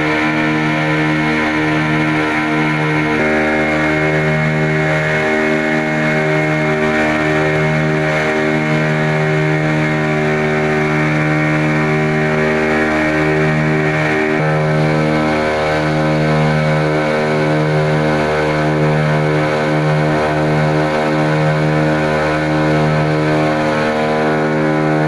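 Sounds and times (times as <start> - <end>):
motor boat engine drone: 0.0 - 25.0.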